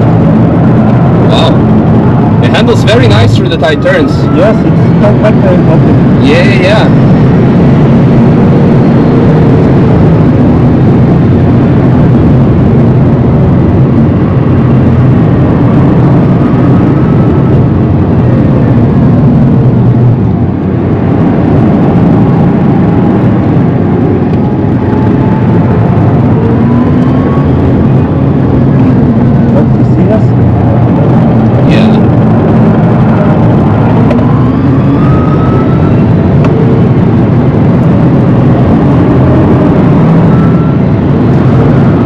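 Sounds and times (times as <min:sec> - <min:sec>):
road tyre and wind noise: 0:00.0 - 0:42.0.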